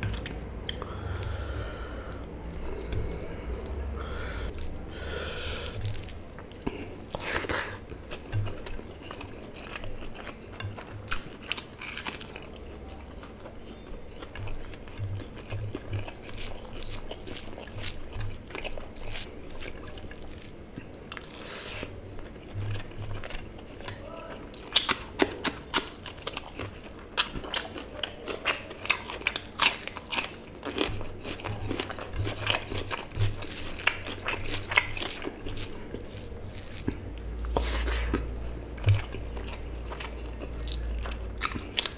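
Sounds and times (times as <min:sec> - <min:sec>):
fingers squishing rice and curry: 0:04.5 - 0:41.9
chewing and lip smacks: 0:05.8 - 0:21.4, 0:22.2 - 0:41.9.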